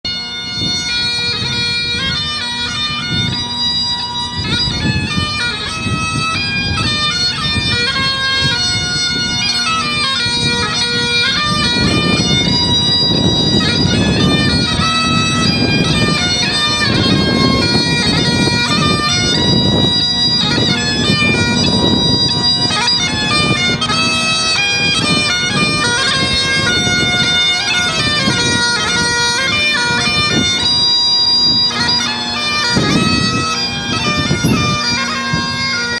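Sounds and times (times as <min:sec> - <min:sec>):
bagpipe playing a march: 0:00.1 - 0:36.0.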